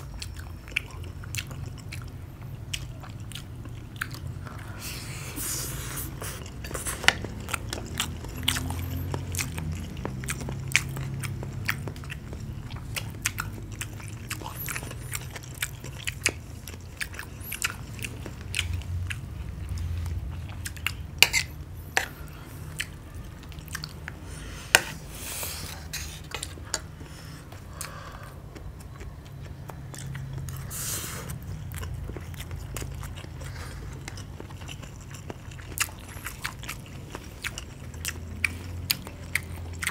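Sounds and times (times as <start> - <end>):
people chewing food: 0.0 - 39.9.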